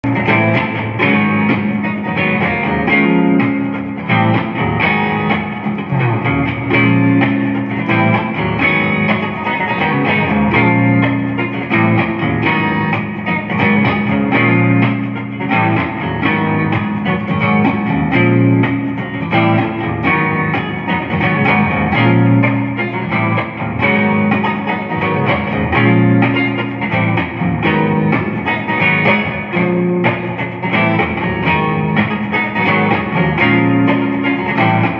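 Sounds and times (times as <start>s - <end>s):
clean electric guitar playing: 0.0s - 34.9s.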